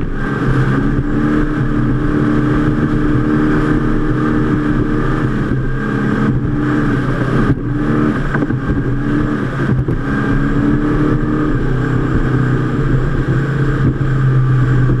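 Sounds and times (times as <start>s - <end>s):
powerboat engines at high speed: 0.0s - 15.0s
water rushing: 0.0s - 15.0s.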